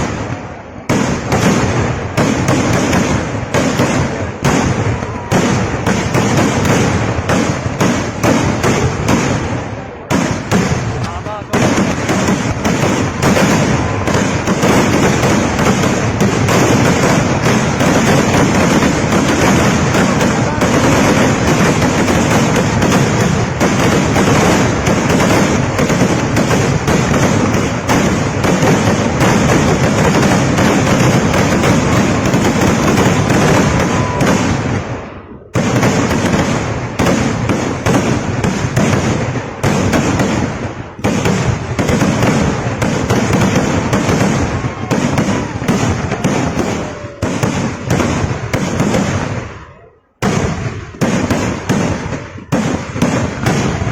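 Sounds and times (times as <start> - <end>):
firecracker bangs crackling: 0.0 - 49.6, 50.2 - 53.9.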